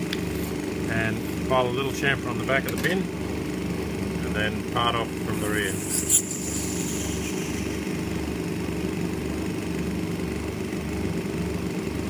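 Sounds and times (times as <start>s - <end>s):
lathe running with a hum: 0.0s - 12.0s.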